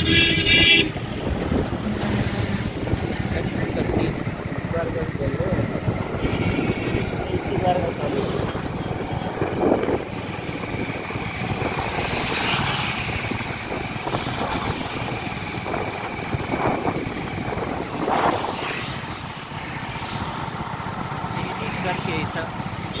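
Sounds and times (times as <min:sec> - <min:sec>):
motorcycle engine drone: 0:00.0 - 0:23.0
rushing air: 0:00.9 - 0:04.8, 0:05.4 - 0:21.0.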